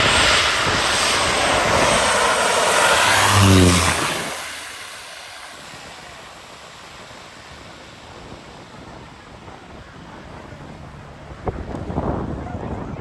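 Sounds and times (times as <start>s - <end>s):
airplane engine noise: 0.0s - 12.6s.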